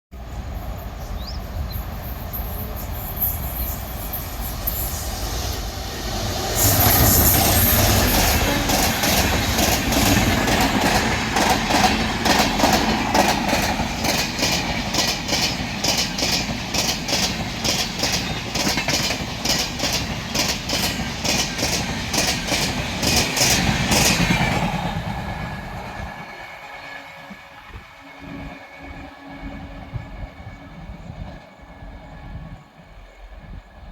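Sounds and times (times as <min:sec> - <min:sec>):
train passing at speed: 0:00.1 - 0:33.9.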